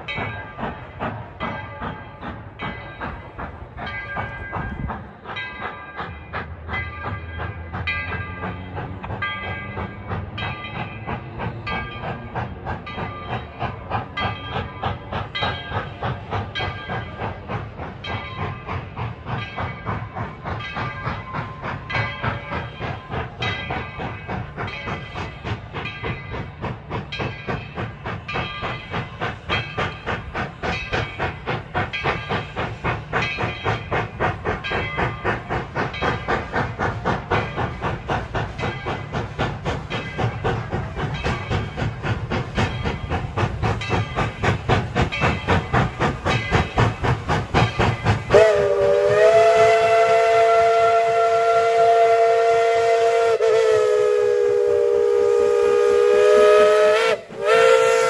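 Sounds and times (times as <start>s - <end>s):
steam locomotive exhaust beating: 0.0s - 58.0s.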